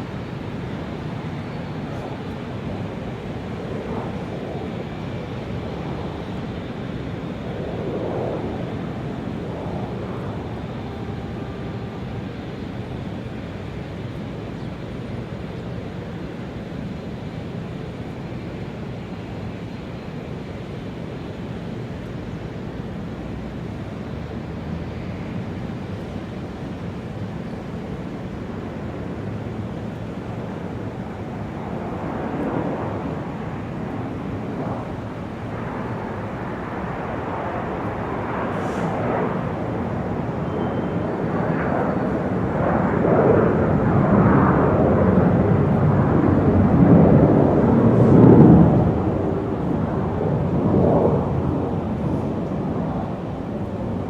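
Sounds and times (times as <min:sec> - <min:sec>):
jet airplane rumble: 0:00.0 - 0:54.0.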